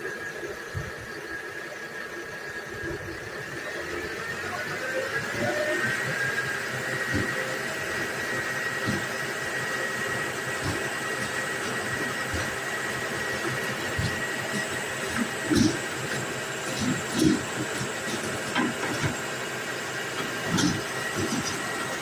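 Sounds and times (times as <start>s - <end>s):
lift truck running with high whine: 0.0s - 22.0s.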